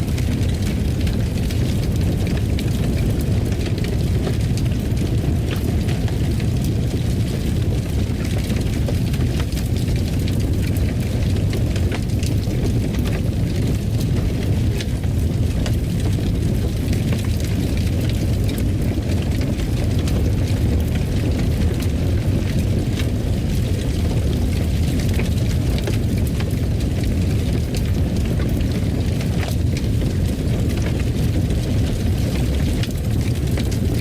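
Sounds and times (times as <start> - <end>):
fireplace fire crackling: 0.0 - 34.0.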